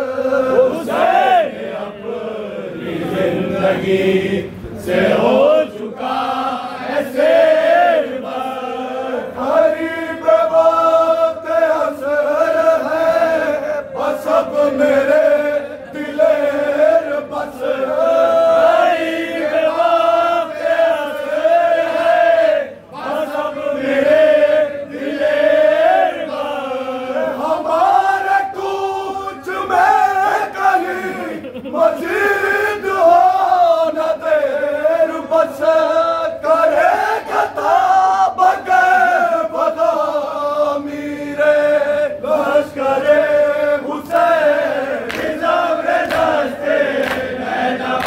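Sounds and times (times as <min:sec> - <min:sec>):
men singing in unison: 0:00.0 - 0:48.0.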